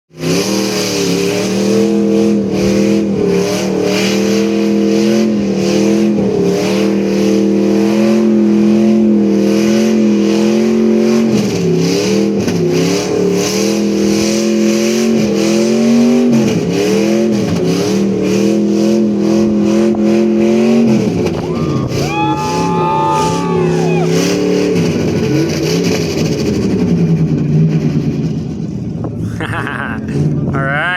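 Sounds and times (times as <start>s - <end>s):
car engine at high revs: 0.1s - 30.9s.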